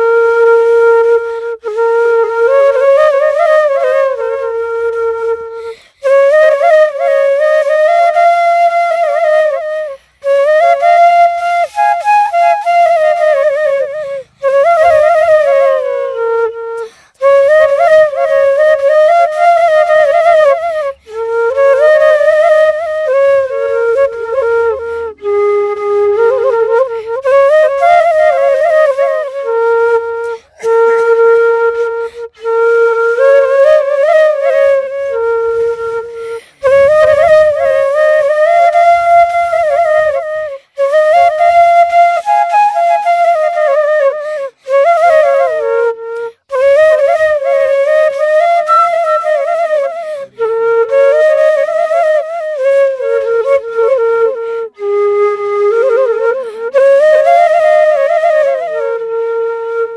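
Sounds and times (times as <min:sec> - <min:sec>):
solo flute melody: 0:00.0 - 0:59.9.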